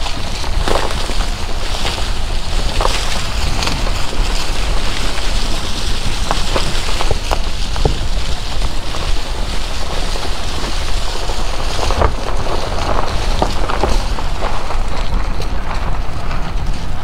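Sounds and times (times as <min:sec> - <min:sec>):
car engine and tyres rumbling: 0:00.0 - 0:17.0
wind buffeting microphone: 0:00.0 - 0:17.0.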